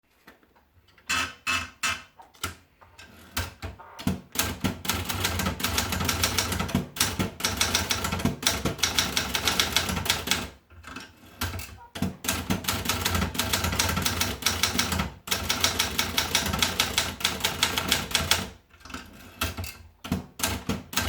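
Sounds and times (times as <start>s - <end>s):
typewriter typing: 3.1s - 21.0s.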